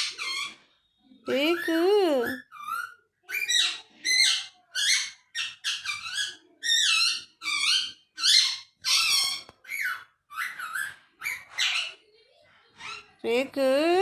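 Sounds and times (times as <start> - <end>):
parrot squawking: 0.0 - 0.6, 1.3 - 12.1.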